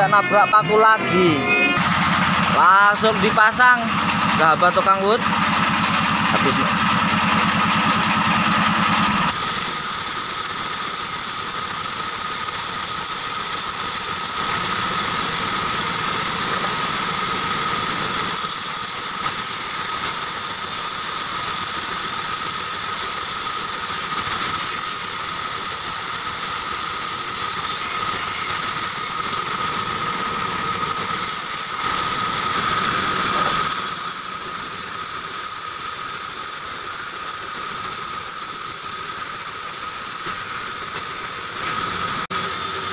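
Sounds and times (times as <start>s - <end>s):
band saw cutting wood: 0.0s - 42.9s
high saw whine: 0.0s - 42.9s.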